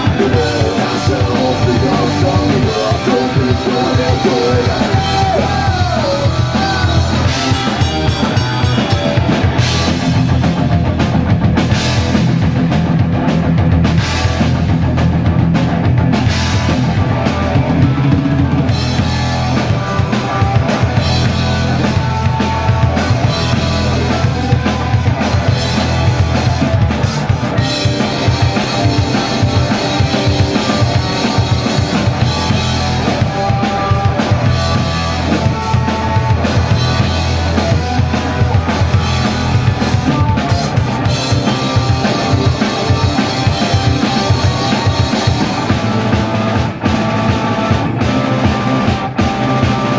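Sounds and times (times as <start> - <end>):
bass guitar: 0.0 - 49.9
distorted electric guitars: 0.0 - 49.9
drum kit: 0.0 - 49.9.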